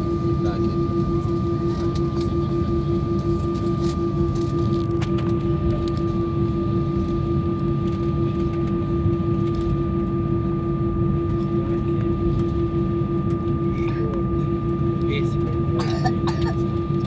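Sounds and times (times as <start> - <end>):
airplane cabin engine hum: 0.0 - 17.0.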